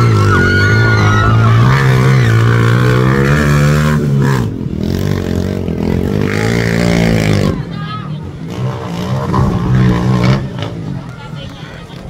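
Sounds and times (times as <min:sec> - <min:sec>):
motorcycle engine revving hard: 0:00.0 - 0:07.7, 0:08.4 - 0:10.8.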